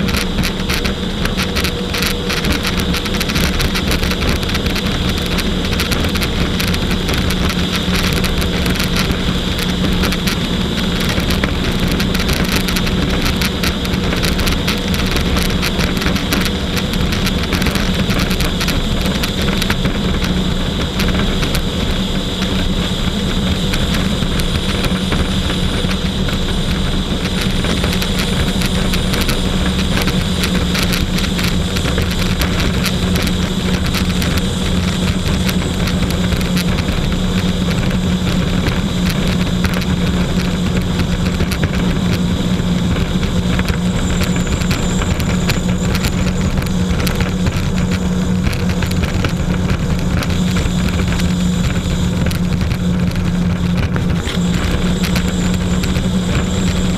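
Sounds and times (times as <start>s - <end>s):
jet ski engine running: 0.0s - 56.9s
rushing noise: 0.0s - 56.9s
small sharp crackles: 0.0s - 56.9s.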